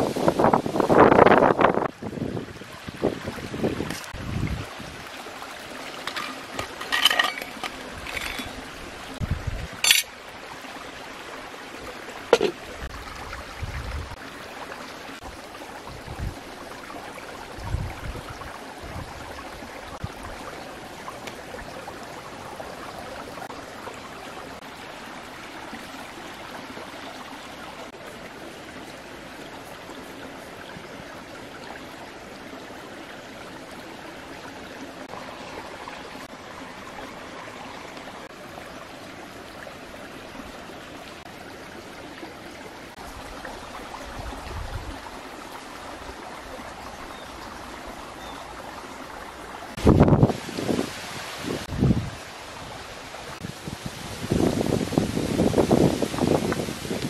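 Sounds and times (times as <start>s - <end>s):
rushing water noise: 0.0s - 57.0s.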